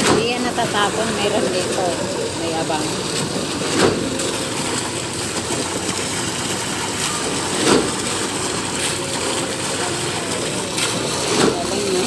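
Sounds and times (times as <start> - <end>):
concrete pump truck running: 0.0 - 12.0.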